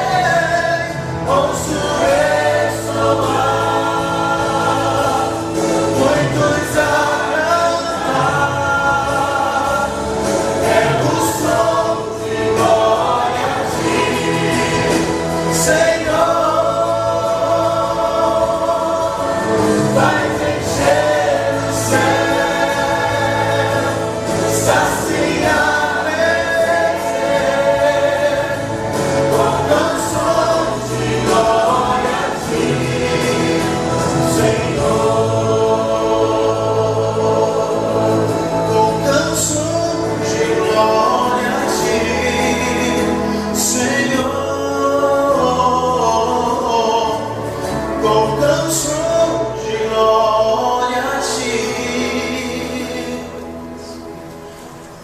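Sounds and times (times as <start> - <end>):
bass notes: 0.0 - 55.0
choir singing gospel: 0.0 - 55.0
instrumental accompaniment: 0.0 - 55.0.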